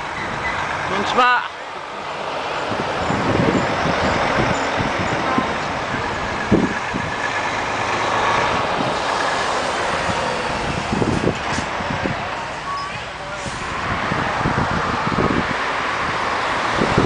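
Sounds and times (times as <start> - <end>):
heavy trucks driving past: 0.0 - 17.0.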